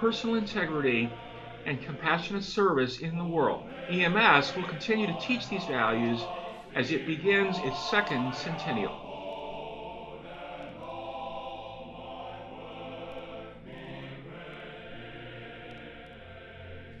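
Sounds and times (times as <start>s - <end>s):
choir singing slow chords: 0.0s - 17.0s.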